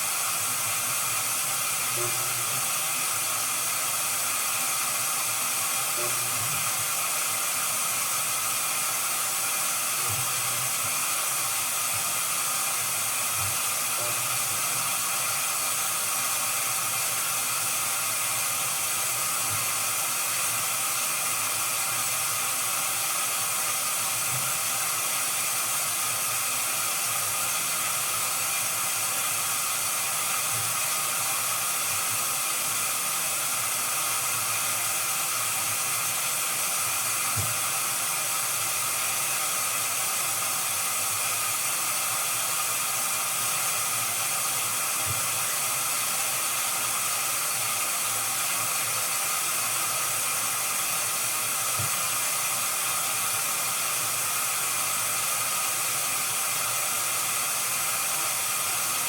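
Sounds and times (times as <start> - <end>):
washing machine rushing hiss: 0.0 - 59.0.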